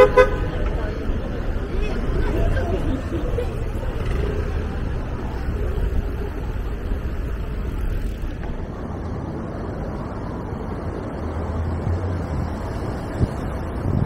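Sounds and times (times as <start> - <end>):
road traffic: 0.0 - 14.0
wind buffeting microphone: 0.5 - 14.0.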